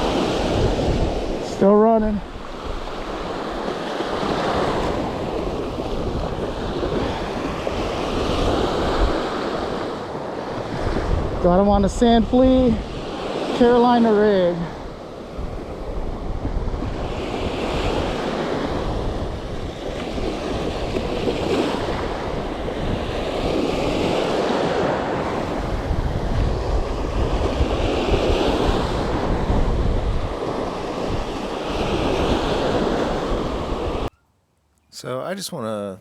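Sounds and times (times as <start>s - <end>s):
wind buffeting microphone: 0.0s - 1.4s, 4.1s - 34.1s
surf washing up beach: 0.0s - 34.1s.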